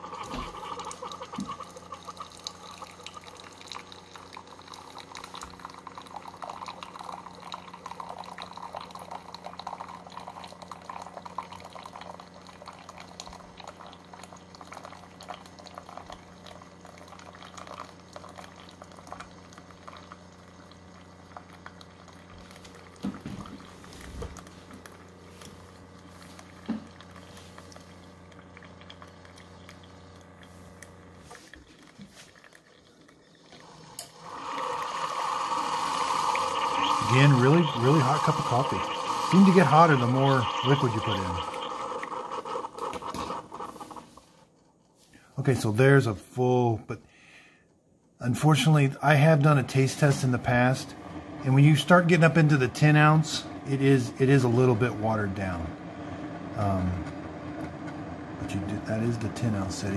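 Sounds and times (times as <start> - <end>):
coffee pouring into glass mug: 0.0 - 44.2, 49.1 - 55.8
machine hum: 0.0 - 44.4, 48.2 - 59.9.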